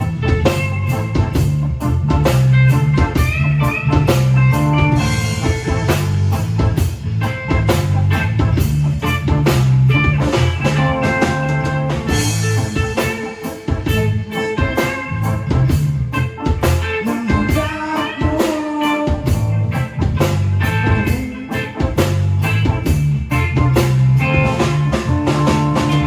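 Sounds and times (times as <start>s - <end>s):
drum kit steady beat: 0.0s - 26.0s
heavy bass line: 0.0s - 26.0s
rock band playing: 0.0s - 26.0s.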